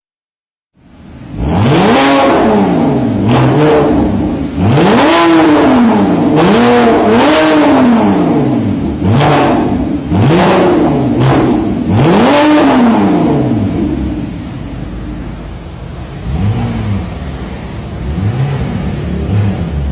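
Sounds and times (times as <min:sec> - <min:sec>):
car engine revving: 0:00.9 - 0:19.9.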